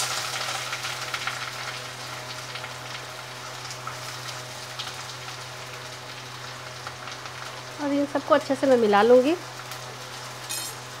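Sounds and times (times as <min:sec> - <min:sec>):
onions sizzling in a frying pan: 0:00.0 - 0:11.0.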